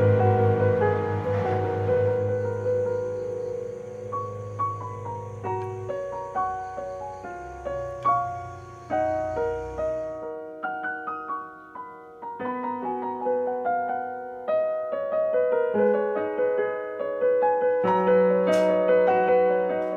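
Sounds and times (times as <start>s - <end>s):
piano music: 0.0s - 19.9s.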